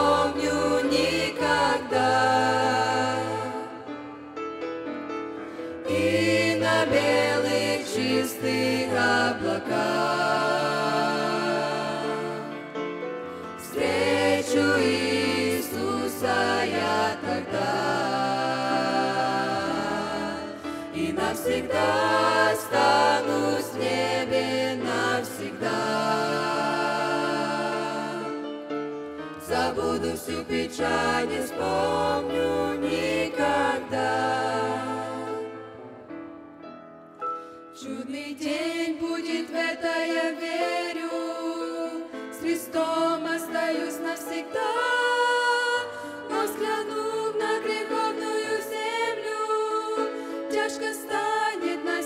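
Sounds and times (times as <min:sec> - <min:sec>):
vocal group singing in harmony: 0:00.0 - 0:04.3, 0:05.5 - 0:36.1, 0:37.4 - 0:52.0.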